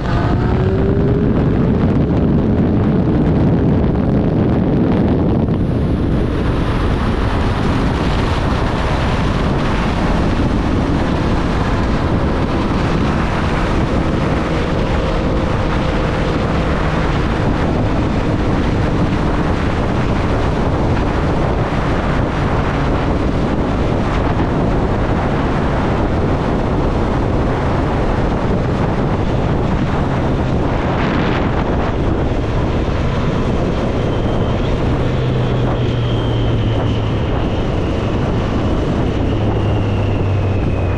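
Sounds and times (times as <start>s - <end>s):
motorcycle engine running: 0.0s - 36.2s
wind rush on microphone: 0.0s - 40.9s.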